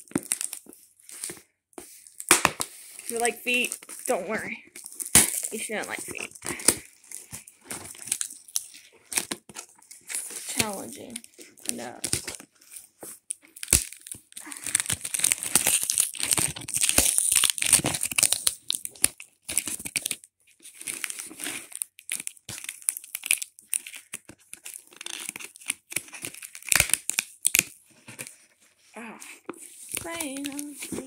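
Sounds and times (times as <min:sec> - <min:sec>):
packing tape ripping off cardboard: 0:04.7 - 0:28.4, 0:29.2 - 0:31.0.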